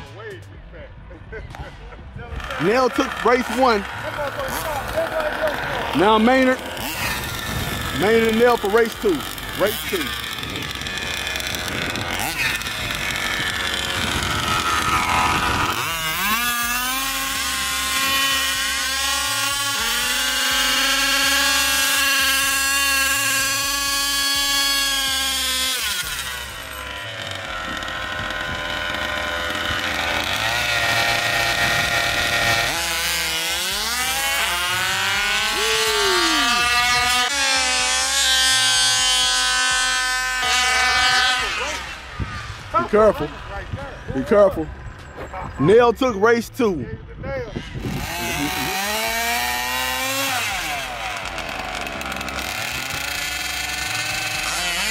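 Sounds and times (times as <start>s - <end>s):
small two-stroke engines revving: 2.3s - 46.7s, 47.5s - 54.9s.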